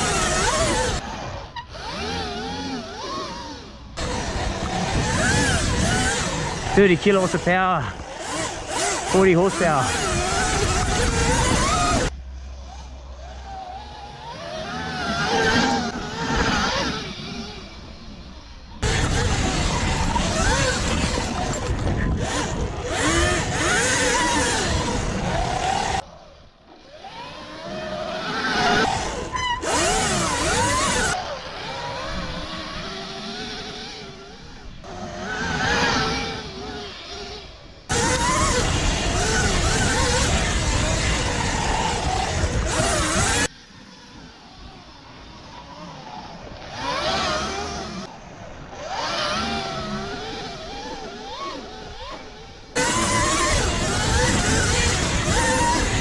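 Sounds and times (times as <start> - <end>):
electric motor whining: 0.0 - 26.1, 26.9 - 43.5, 45.2 - 56.0.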